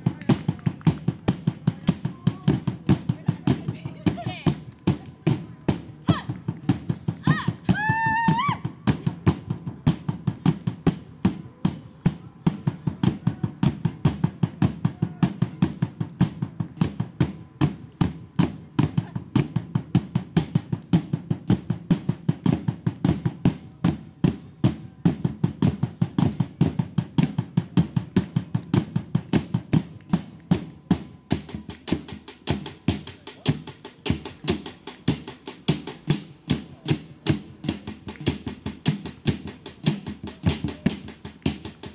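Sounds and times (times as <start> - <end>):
drums beaten with sticks: 0.0 - 41.9.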